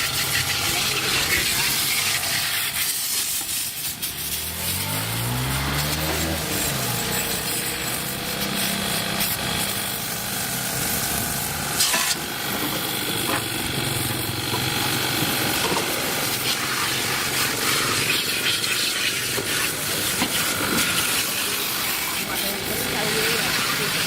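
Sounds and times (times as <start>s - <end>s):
steady hissing spray: 0.0s - 24.0s.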